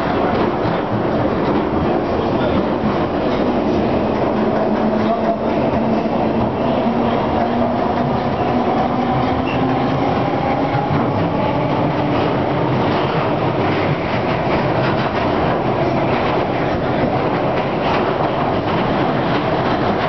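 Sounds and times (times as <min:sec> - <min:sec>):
train rumbling through tunnel: 0:00.0 - 0:20.0.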